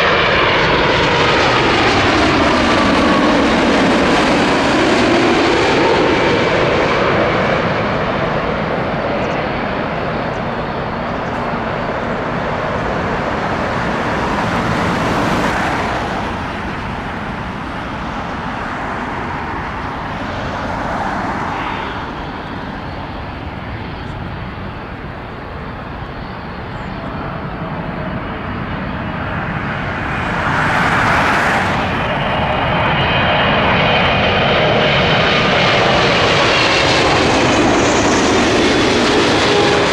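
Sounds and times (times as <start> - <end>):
high engine fan whine: 0.0 - 39.9
jet engines rumbling: 0.0 - 39.9.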